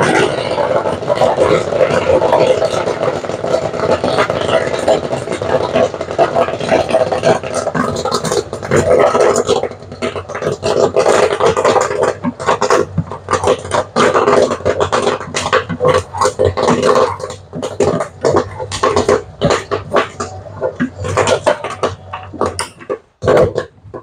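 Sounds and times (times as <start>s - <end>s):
popcorn rattling in a pan: 0.0s - 24.0s
stirrer motor humming: 0.0s - 24.0s.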